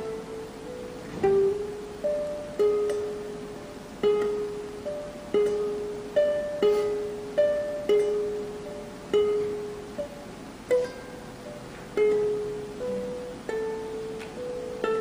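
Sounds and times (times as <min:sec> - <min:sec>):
solo classical guitar: 0:00.0 - 0:15.0.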